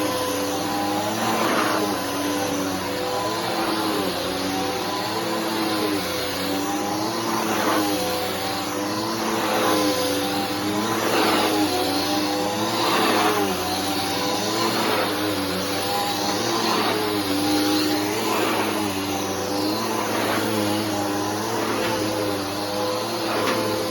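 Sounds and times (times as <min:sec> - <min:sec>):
upright vacuum cleaner running: 0:00.0 - 0:23.9.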